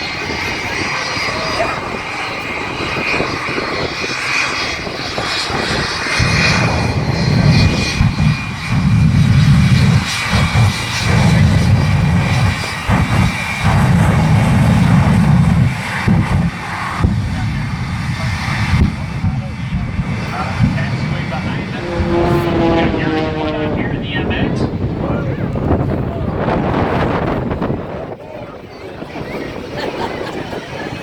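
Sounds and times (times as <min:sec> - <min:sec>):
heavy low rumble: 0:00.0 - 0:28.6
aircraft engine droning: 0:00.0 - 0:31.0.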